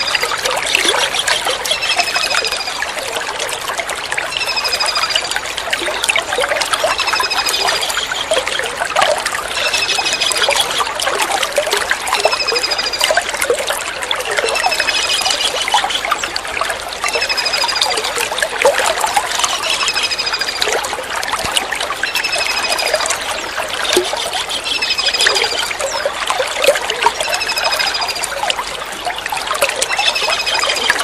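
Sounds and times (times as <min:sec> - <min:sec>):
running water trickling: 0:00.0 - 0:31.0.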